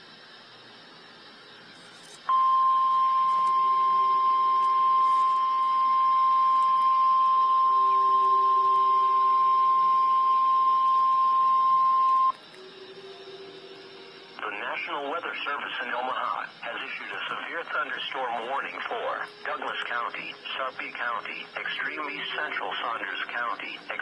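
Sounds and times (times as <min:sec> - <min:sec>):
high-pitched alarm tone: 0:02.3 - 0:24.0.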